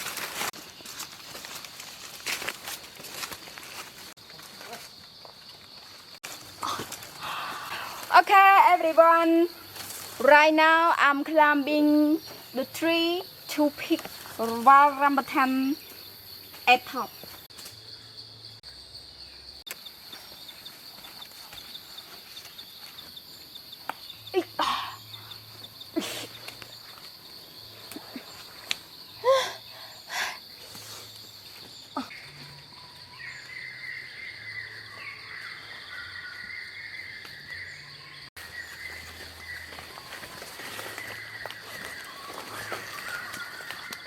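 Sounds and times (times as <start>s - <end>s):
high-pitched insects droning: 0.0s - 44.0s.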